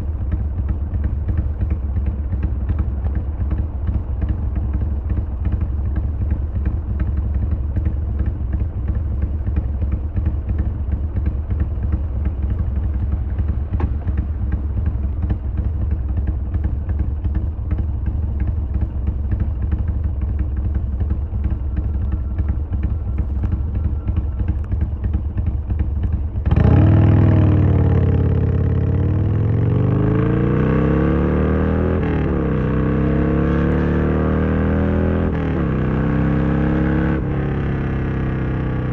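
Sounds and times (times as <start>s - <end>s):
motorcycle engine rumbling: 0.0s - 38.9s
motorcycle engine revving: 6.6s - 38.9s.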